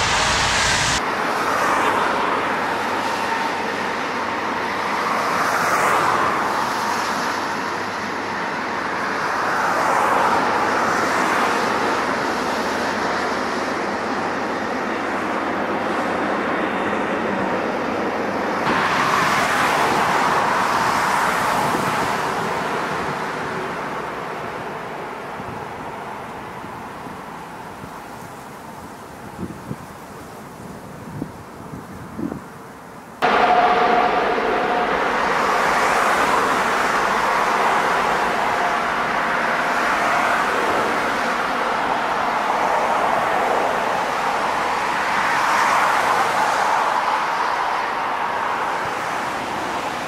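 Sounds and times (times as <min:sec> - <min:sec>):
jet engines roaring: 0:00.0 - 0:16.8, 0:17.8 - 0:24.9, 0:33.2 - 0:50.0.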